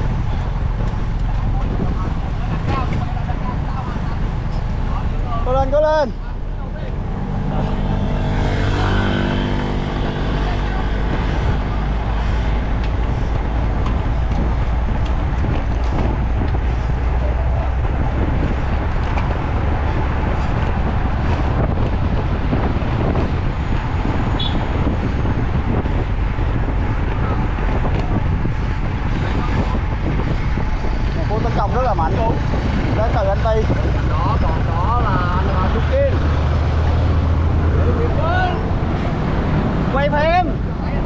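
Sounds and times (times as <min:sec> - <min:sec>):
vehicle rumble: 0:00.0 - 0:41.0
wind rushing over microphone: 0:00.0 - 0:41.0.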